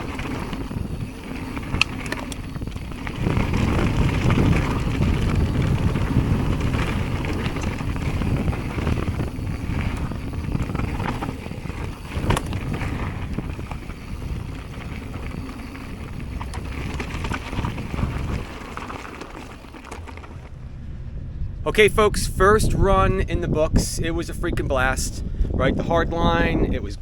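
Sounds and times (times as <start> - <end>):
bike tyre and trail noise: 0.0 - 22.9
wind buffeting microphone: 0.0 - 27.0.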